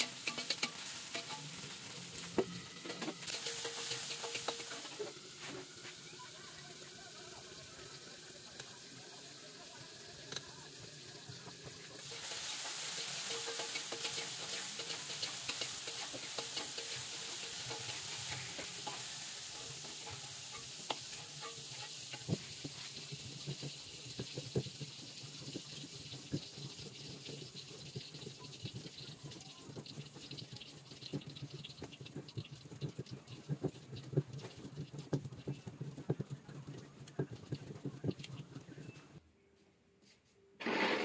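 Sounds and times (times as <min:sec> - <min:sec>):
spatula stirring: 0:00.0 - 0:06.0, 0:11.4 - 0:39.2
food sizzling in a wok: 0:00.0 - 0:39.1.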